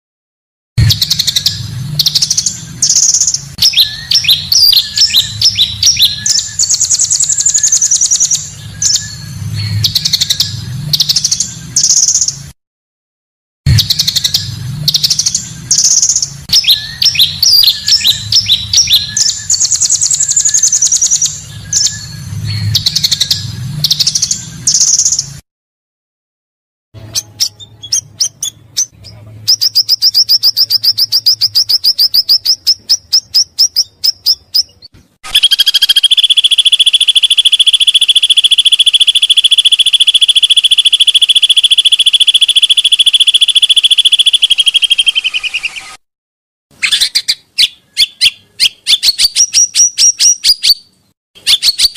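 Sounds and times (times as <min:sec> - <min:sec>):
bird chirps and whistles: 0:00.8 - 0:12.3, 0:13.7 - 0:25.3, 0:27.1 - 0:46.0, 0:46.8 - 0:51.9
high buzzing bird trill: 0:00.8 - 0:12.4, 0:13.7 - 0:25.3, 0:27.0 - 0:34.7, 0:35.3 - 0:46.0.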